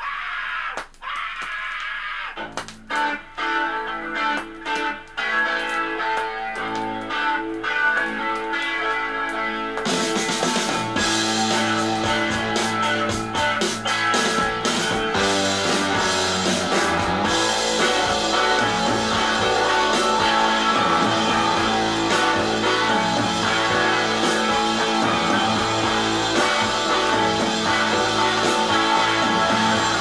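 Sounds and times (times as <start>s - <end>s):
classic rock music: 2.4s - 30.0s.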